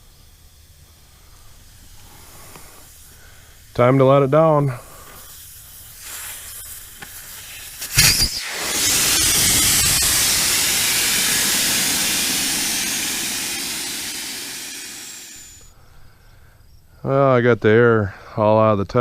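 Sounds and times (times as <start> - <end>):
air hissing out of tire: 0.0 - 15.8.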